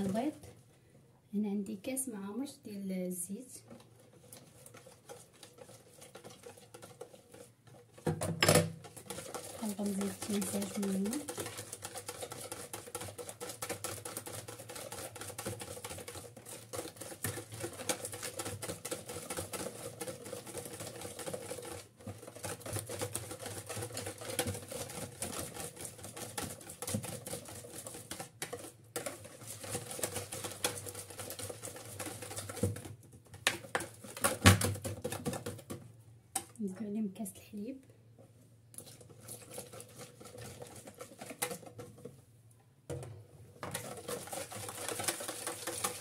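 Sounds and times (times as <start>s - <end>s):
whisk clicking against bowl: 3.6s - 35.8s, 38.7s - 42.1s, 43.6s - 46.0s.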